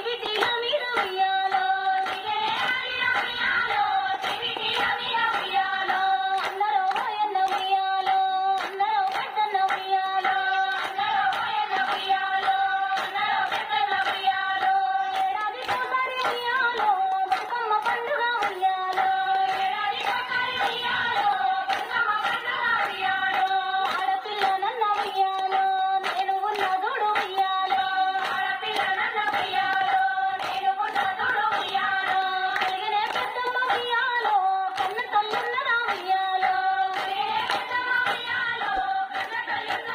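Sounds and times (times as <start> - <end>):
group hand-clapping: 0.0 - 39.9
women singing folk song: 0.0 - 39.9.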